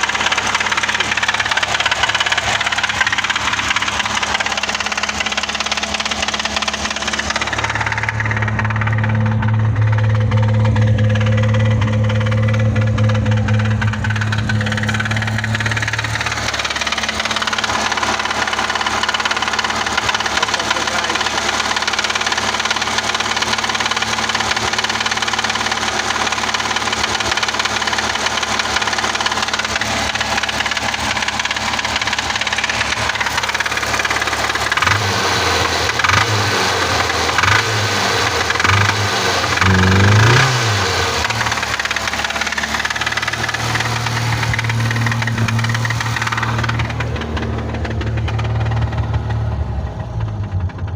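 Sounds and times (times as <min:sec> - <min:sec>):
car engine running with knock: 0:00.0 - 0:50.9.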